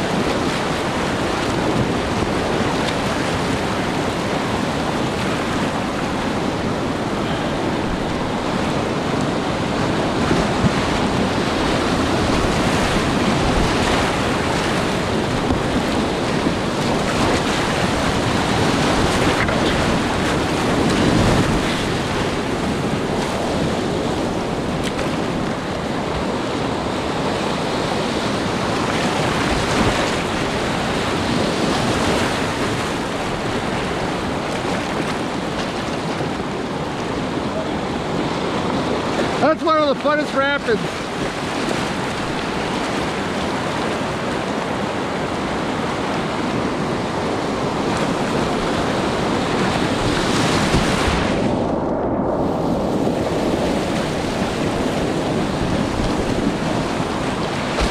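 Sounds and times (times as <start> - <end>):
waves breaking over kayak bow: 0.0 - 57.9
whitewater rushing: 0.0 - 57.9.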